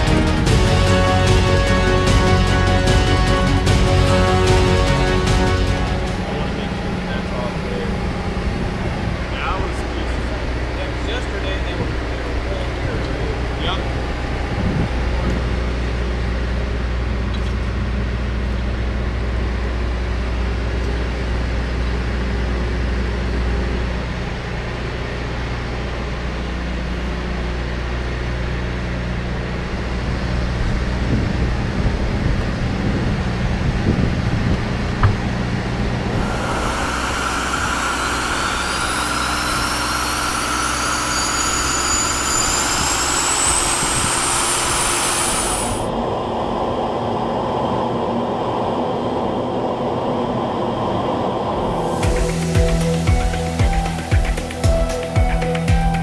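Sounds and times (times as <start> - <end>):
turbine whine rising in pitch: 0.0 - 56.0
turboprop engine starting: 0.0 - 56.0.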